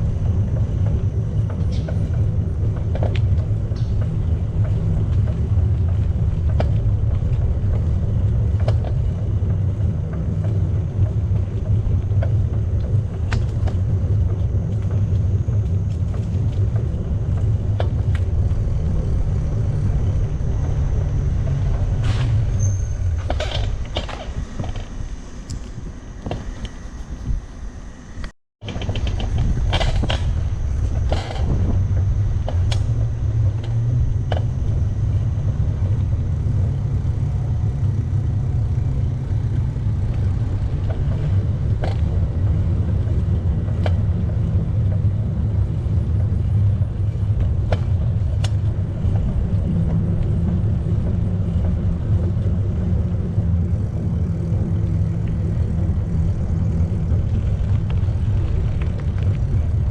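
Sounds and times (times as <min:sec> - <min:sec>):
bicycle riding rumble: 0:00.0 - 0:59.9
wind: 0:00.0 - 0:59.9.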